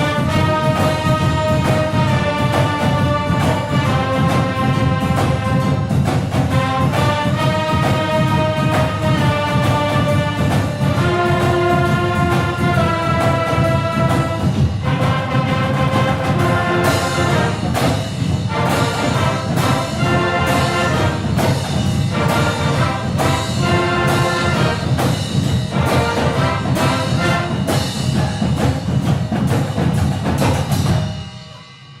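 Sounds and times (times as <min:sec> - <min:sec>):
brass section: 0:00.0 - 0:28.7
drums keeping a steady beat: 0:00.0 - 0:32.0.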